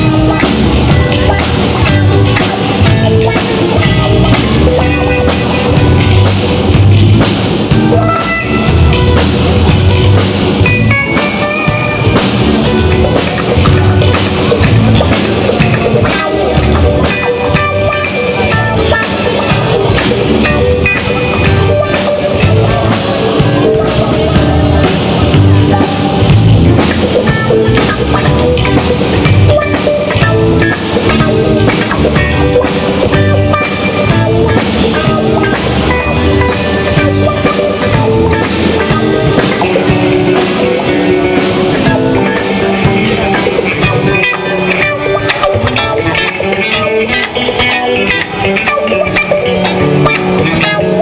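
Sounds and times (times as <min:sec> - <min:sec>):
drum kit: 0:00.0 - 0:51.0
electric guitar playing rock: 0:00.0 - 0:51.0.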